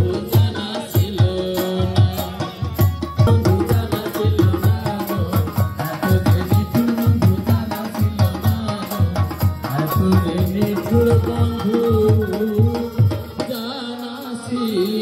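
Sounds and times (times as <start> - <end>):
hand drum beating: 0.0 - 13.6
person singing: 0.0 - 15.0.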